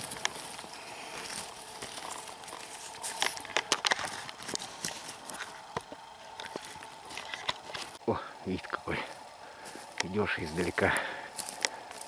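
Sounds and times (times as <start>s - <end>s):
pine needles and twigs crackling: 0.0s - 12.0s.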